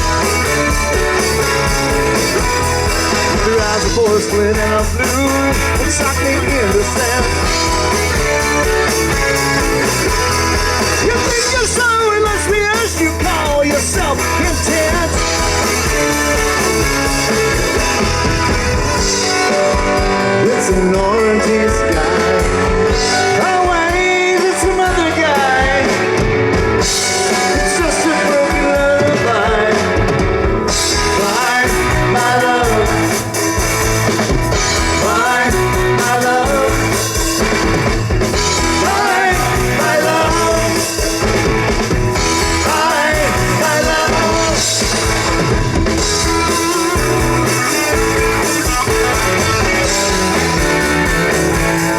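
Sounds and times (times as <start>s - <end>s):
lead singer's voice: 0.0s - 51.9s
rock band playing: 0.0s - 51.9s.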